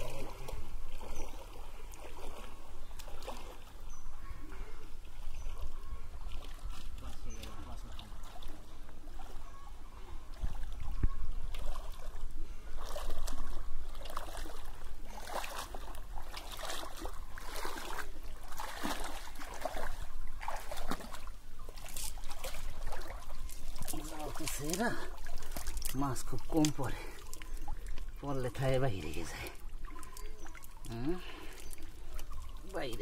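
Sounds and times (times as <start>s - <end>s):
person wading through water: 0.0s - 33.0s.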